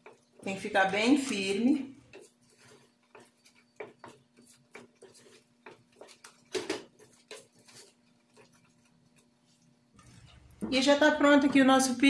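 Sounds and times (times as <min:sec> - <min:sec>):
spoon stirring thick food in pot: 0:00.0 - 0:10.9.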